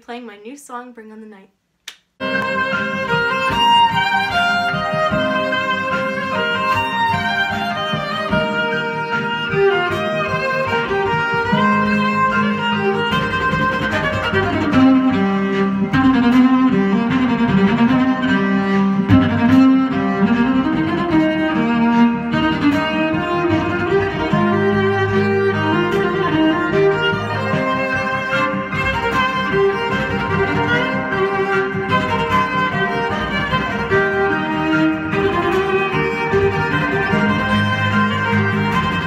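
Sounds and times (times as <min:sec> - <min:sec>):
electric violin melody: 0:02.2 - 0:39.0.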